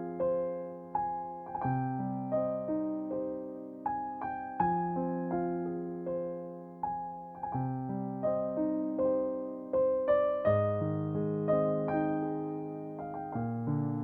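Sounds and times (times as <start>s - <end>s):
gentle solo piano music: 0.0s - 14.0s.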